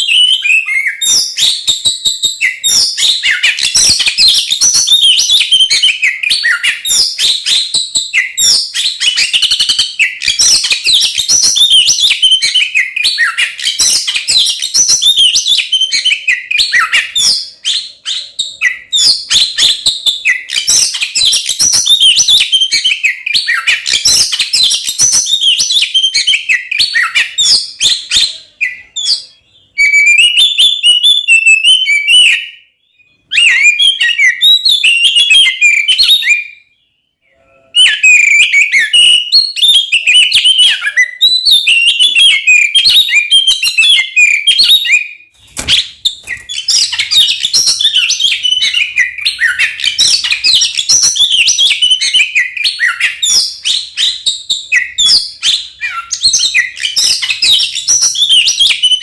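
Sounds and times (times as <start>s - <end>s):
songbird singing whistles and chatter: 0.0s - 59.0s.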